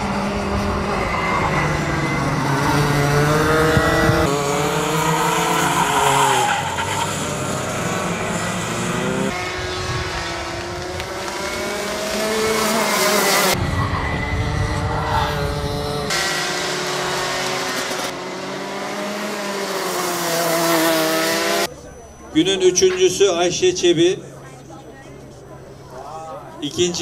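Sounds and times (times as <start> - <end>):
racing kart engines revving: 0.0 - 21.8.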